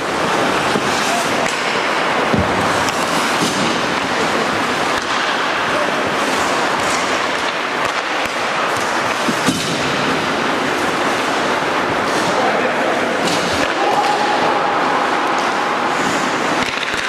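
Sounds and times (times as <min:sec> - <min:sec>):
hockey sticks and puck clacking: 0:00.0 - 0:17.0
skates scraping on ice: 0:00.0 - 0:17.0.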